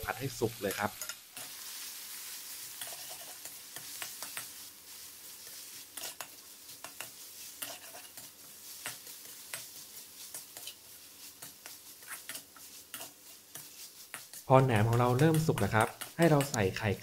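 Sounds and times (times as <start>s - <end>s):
sausage sizzling in a wok: 0.0s - 17.0s
metal spatula scraping a pan: 0.6s - 16.5s.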